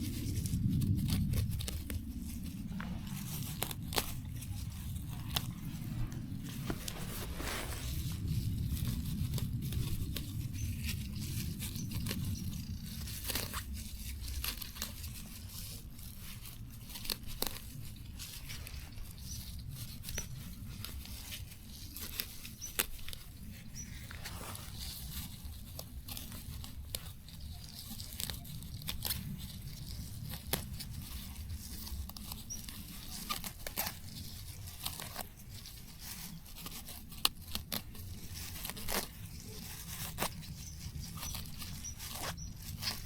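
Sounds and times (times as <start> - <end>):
steady low rumble: 0.0 - 37.2
plants tearing and snapping: 0.0 - 43.0.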